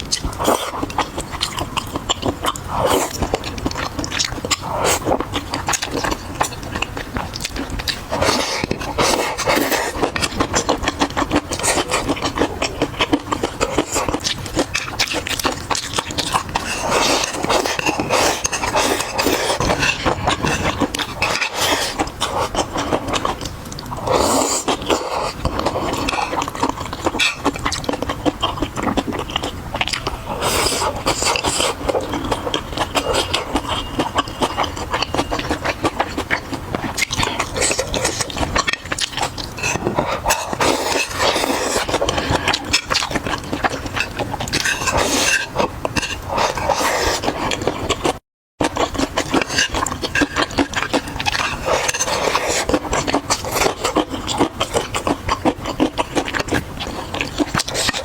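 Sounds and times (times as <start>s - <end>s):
chewing and biting: 0.0s - 58.0s.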